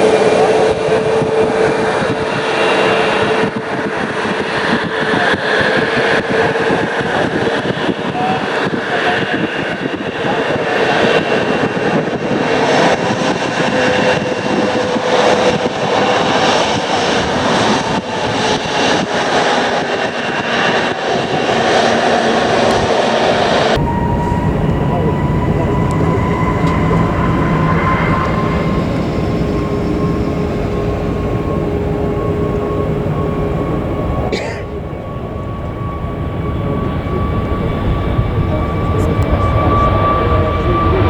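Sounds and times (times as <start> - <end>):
jet engines running loud: 0.0 - 41.0
low jet rumble with whining tones: 0.0 - 41.0.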